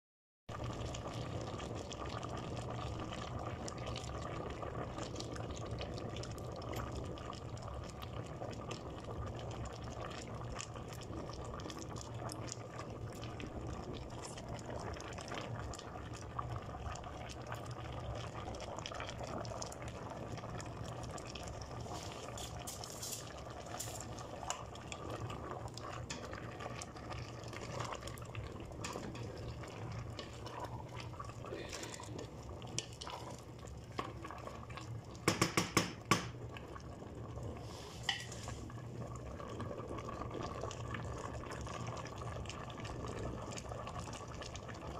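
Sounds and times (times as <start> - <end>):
stew bubbling in a pot: 0.5 - 44.9.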